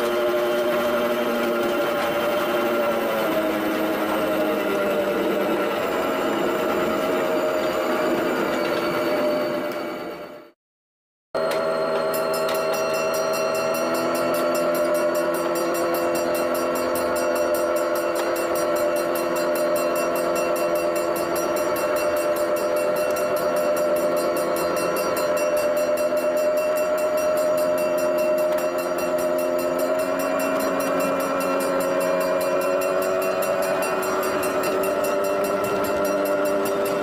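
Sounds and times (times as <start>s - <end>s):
mini train rolling on steel track: 0.0s - 10.6s, 11.4s - 37.0s.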